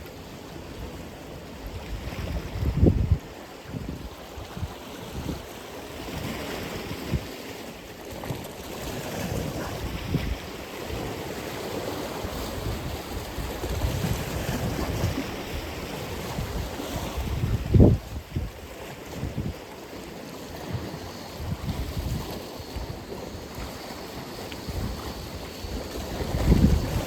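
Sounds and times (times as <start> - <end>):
ocean waves washing: 0.0 - 27.0
wind rumbling on microphone: 1.5 - 7.5, 8.2 - 19.8, 20.5 - 27.0.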